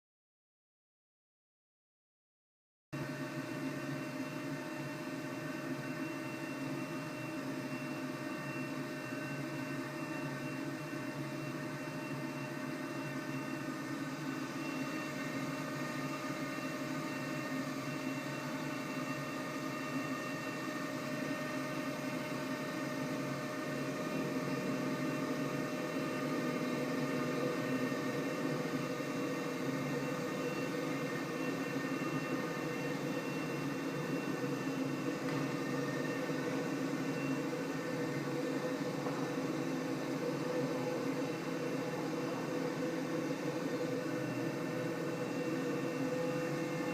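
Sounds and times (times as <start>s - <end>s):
machine whine: 3.0s - 46.9s.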